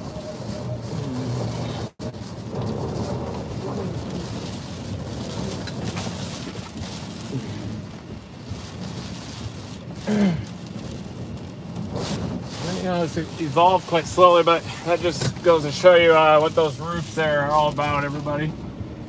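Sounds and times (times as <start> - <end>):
rain and wind beating on car: 0.0 - 19.0
windshield wipers running: 0.0 - 19.0.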